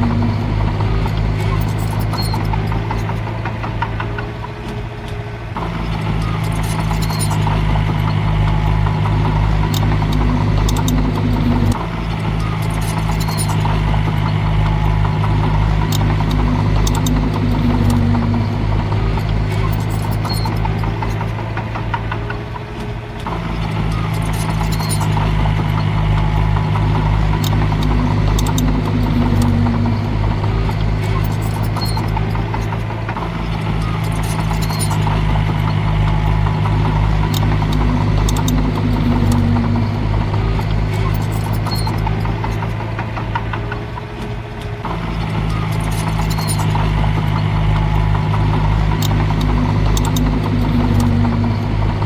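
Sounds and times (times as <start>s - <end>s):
bulldozer diesel engine running: 0.0s - 52.0s
sharp clicks: 0.0s - 52.0s.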